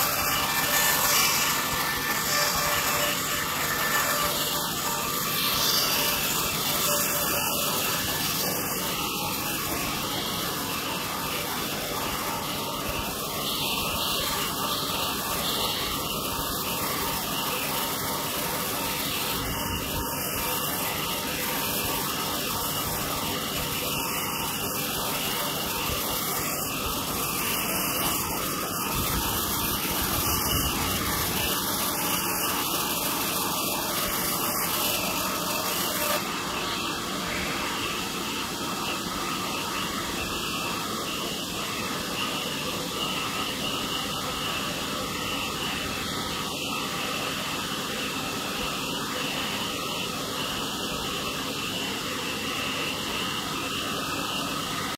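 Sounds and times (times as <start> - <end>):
bandsaw mill cutting log: 0.0 - 54.9.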